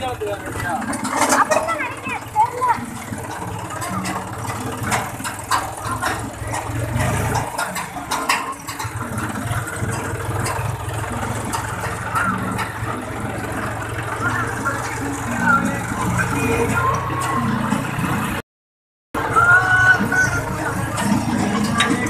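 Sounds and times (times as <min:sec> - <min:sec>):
tractor diesel engine running: 0:00.0 - 0:18.4, 0:19.1 - 0:22.0
rattling clicks: 0:00.4 - 0:17.9, 0:20.1 - 0:22.0.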